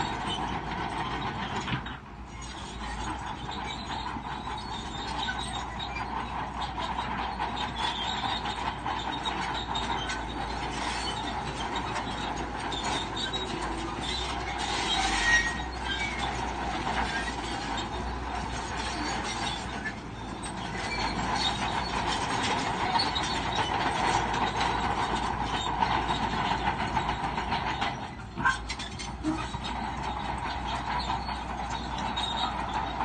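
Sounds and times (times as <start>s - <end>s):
diesel engine running: 0.0s - 33.0s
steel tracks clattering: 0.0s - 33.0s.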